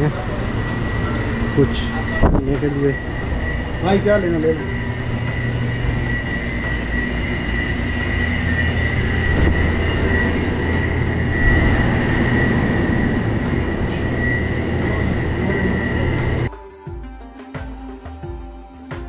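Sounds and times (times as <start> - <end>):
cooling units humming: 0.0 - 16.5.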